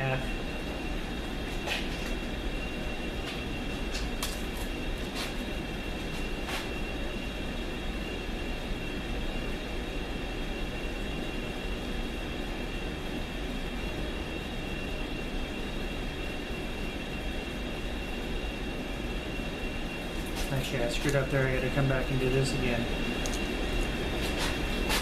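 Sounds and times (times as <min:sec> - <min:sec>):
lathe running with high whine: 0:00.0 - 0:25.0.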